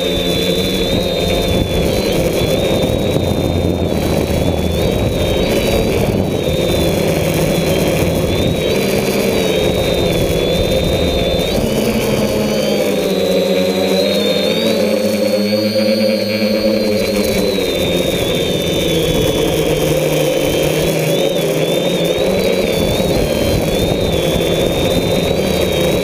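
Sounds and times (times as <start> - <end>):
drone propellers whining: 0.0 - 26.0
wind rumbling on microphone: 0.0 - 26.0.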